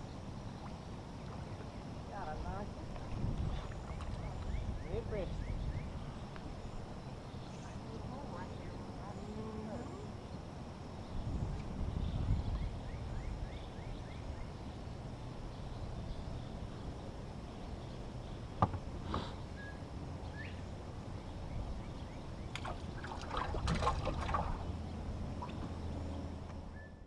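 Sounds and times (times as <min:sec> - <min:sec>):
boat engine rumble: 0:00.0 - 0:13.8, 0:14.5 - 0:27.0.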